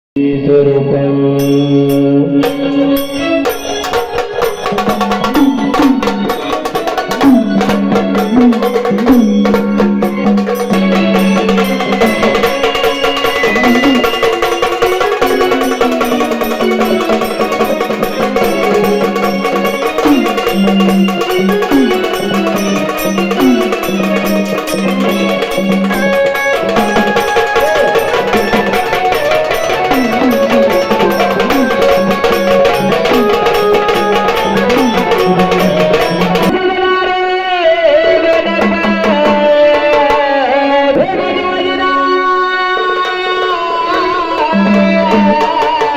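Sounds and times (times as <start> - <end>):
sustained melody with sliding notes: 0.2 - 45.9
clacking wood-block percussion: 1.4 - 37.1, 38.0 - 41.1, 42.7 - 45.9
drums: 1.4 - 45.9.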